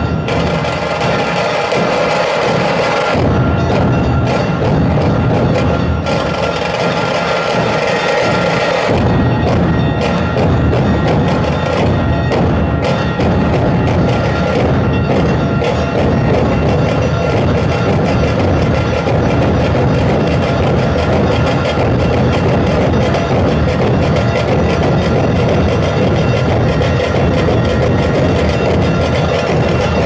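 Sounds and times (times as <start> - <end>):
deep barrel drum strokes: 0.0 - 30.0
drum troupe playing: 0.0 - 30.0
sharp cracking drum strokes: 0.0 - 30.0.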